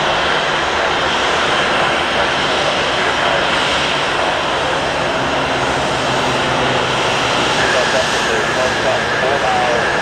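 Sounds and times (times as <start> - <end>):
airplane engines running: 0.0 - 10.0.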